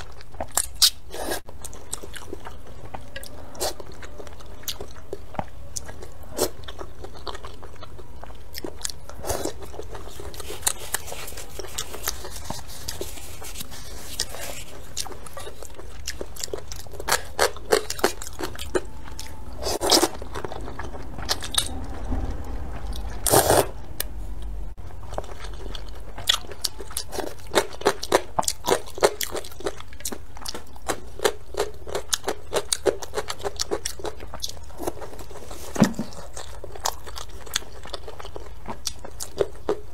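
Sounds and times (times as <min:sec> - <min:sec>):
wet chewing: 0:00.0 - 0:22.0, 0:24.9 - 0:39.9.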